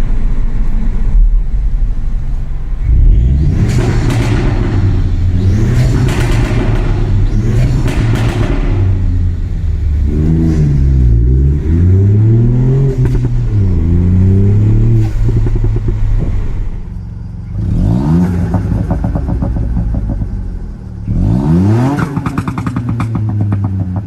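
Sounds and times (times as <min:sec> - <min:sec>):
car engine revving: 0:00.0 - 0:24.0
exhaust crackles: 0:00.0 - 0:24.0.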